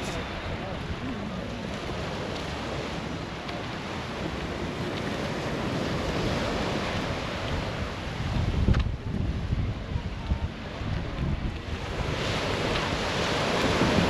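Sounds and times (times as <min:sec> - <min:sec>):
sea waves washing on shore: 0:00.0 - 0:14.0
wind on microphone: 0:00.0 - 0:14.0.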